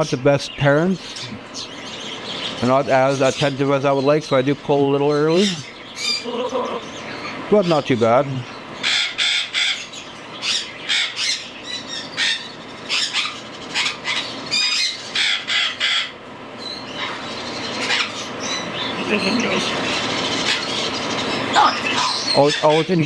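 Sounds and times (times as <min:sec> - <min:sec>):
chicks raspy begging calls: 0:00.0 - 0:23.0.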